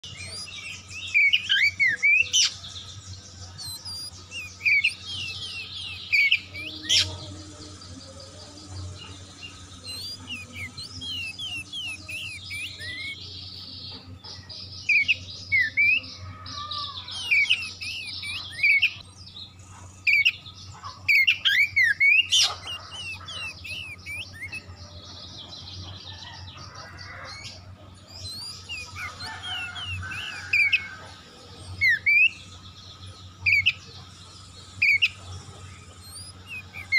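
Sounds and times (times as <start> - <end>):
bird singing chirps and whistles: 0.0 - 13.9, 14.6 - 20.5, 21.1 - 25.4, 27.3 - 36.9
faint steady low hum: 0.0 - 36.9.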